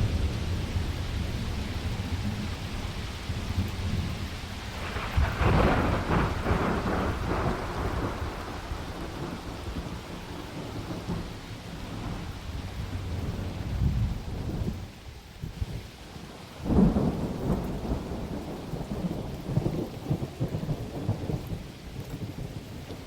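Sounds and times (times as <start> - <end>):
thunder rolling: 0.0 - 14.9, 16.6 - 21.6
heavy rain: 0.0 - 23.0.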